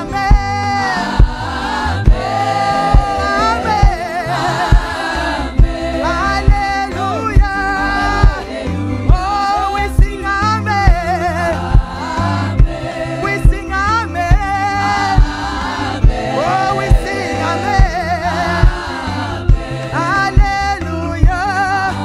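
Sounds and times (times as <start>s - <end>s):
band playing: 0.0s - 22.0s
voices singing gospel: 0.0s - 22.0s
drum beat: 0.2s - 9.3s, 10.9s - 13.7s, 14.3s - 21.6s.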